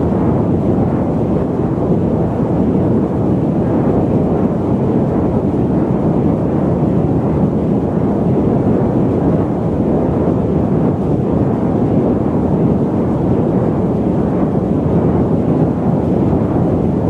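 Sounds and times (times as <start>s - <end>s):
loud static noise: 0.0s - 17.0s.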